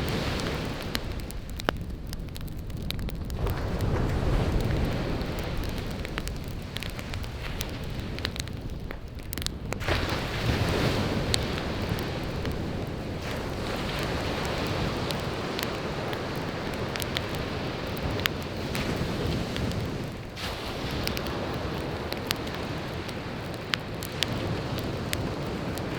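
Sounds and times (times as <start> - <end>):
sea waves breaking on shore: 0.0 - 1.6, 3.4 - 8.5, 9.8 - 25.9
campfire crackling and popping: 0.0 - 25.9.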